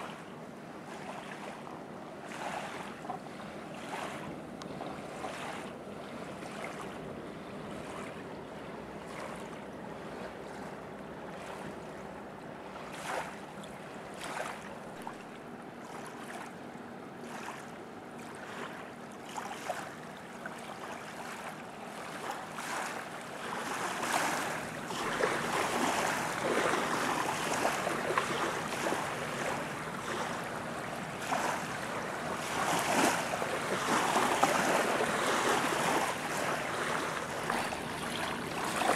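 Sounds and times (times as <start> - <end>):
small waves lapping: 0.0 - 38.9.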